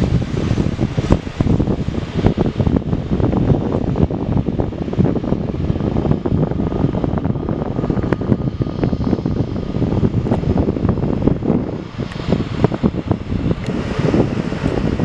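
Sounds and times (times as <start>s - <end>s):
jet engines rumbling with whine: 0.0s - 15.0s
wind on microphone: 0.0s - 15.0s.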